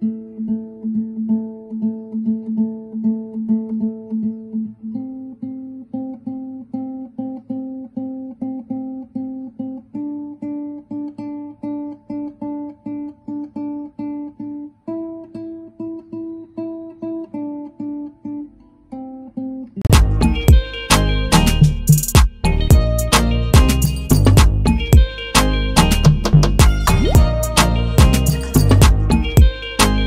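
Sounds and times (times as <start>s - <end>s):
acoustic guitar picking: 0.0s - 30.0s.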